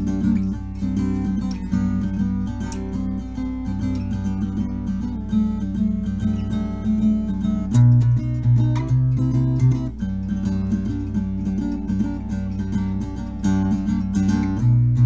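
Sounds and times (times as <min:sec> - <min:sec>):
guitar tune: 0:00.0 - 0:15.0.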